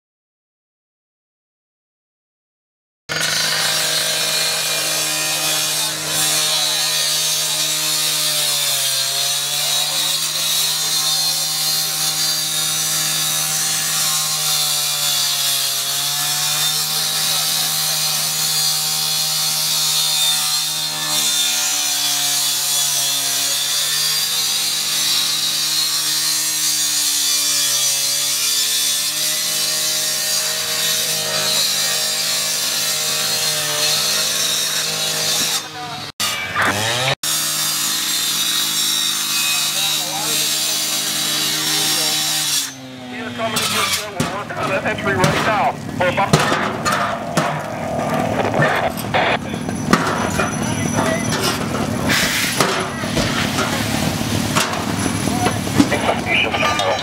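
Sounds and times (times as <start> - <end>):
cut-off saw grinding steel: 3.1 - 57.0.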